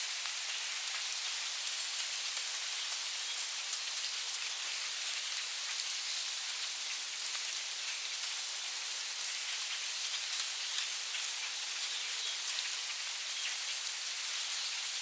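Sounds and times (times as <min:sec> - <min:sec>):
rain on leaves: 0:00.0 - 0:15.0.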